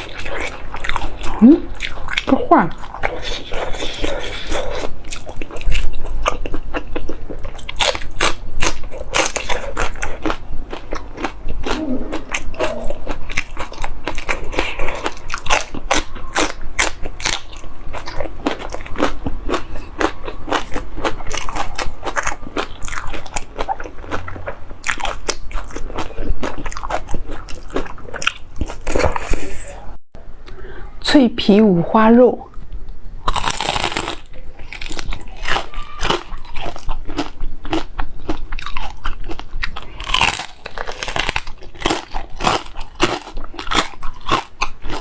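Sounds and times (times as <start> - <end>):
person chewing and biting: 0.0 - 29.6, 33.2 - 45.0.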